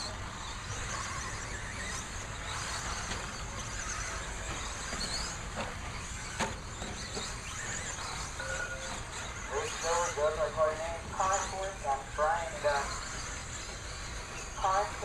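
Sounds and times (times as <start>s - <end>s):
electric motors whining: 0.0s - 15.0s
rc cars on track: 0.0s - 15.0s.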